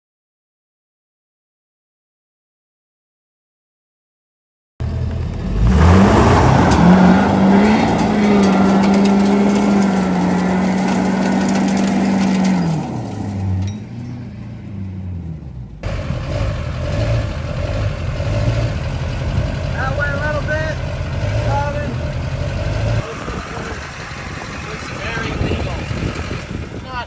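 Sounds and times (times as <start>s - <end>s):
quieter engine running: 4.8s - 27.0s
vehicle engine revving: 4.8s - 27.0s.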